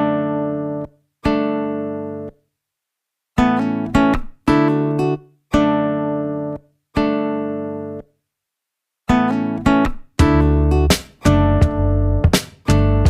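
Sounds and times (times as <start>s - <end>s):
guitar chords ringing out: 0.0s - 2.4s, 3.4s - 8.1s, 9.1s - 13.0s.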